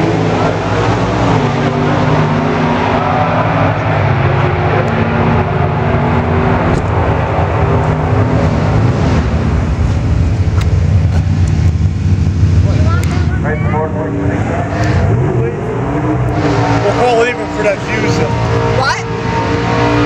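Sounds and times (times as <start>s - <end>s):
car engine idling loudly: 0.0s - 20.0s.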